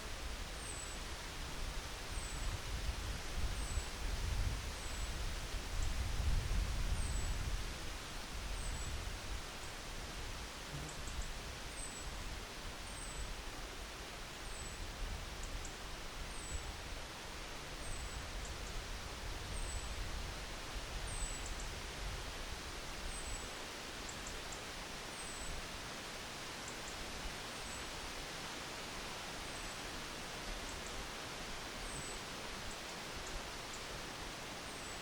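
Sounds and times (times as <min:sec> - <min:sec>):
wind blowing through trees: 0:00.0 - 0:35.0.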